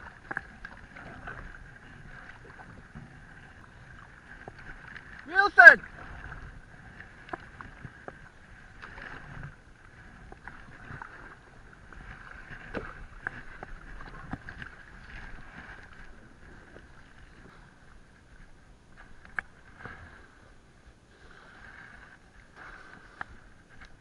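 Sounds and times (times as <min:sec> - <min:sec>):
water swishing: 0:00.0 - 0:24.0.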